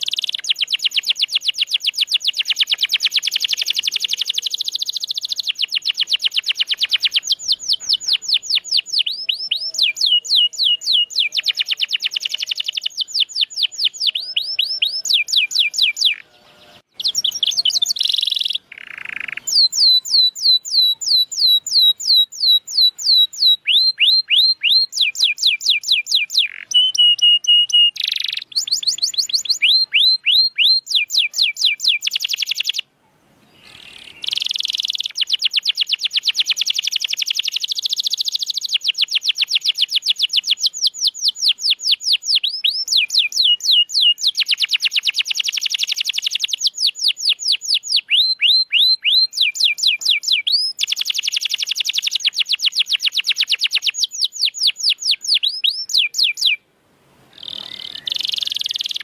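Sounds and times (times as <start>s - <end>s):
canary singing trills: 0.0s - 32.9s, 33.5s - 56.6s, 57.3s - 59.0s.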